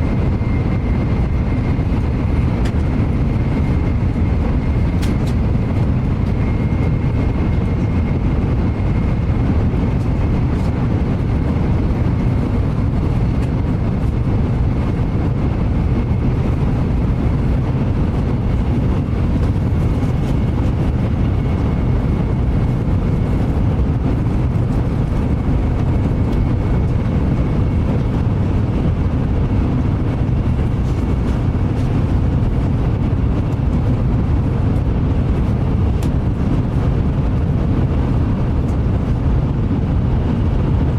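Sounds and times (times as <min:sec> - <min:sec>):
train rumble and rushing noise: 0:00.0 - 0:40.9.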